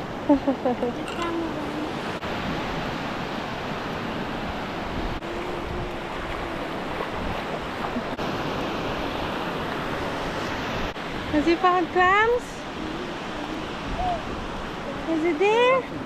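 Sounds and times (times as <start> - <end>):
waves washing onto beach: 0.0 - 16.0.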